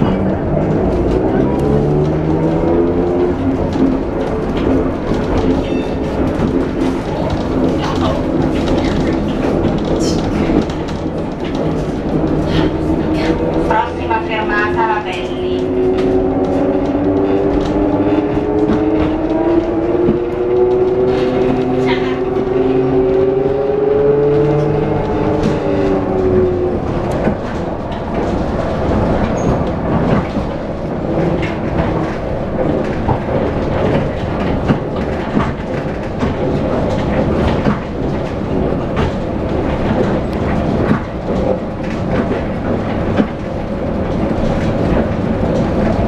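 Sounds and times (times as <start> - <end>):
tram ride rumble: 0.0 - 46.0.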